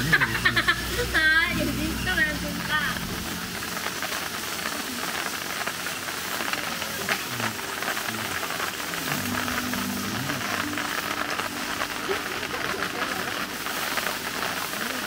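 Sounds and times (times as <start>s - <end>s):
water hissing: 0.0s - 15.0s.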